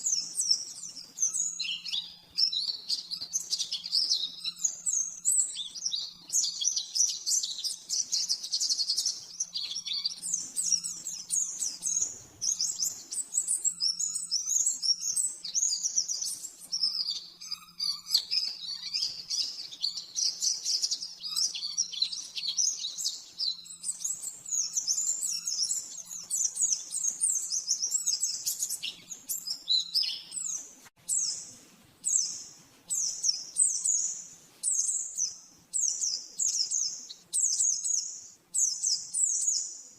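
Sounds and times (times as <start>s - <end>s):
bird singing fast chattering song: 0.0s - 39.9s.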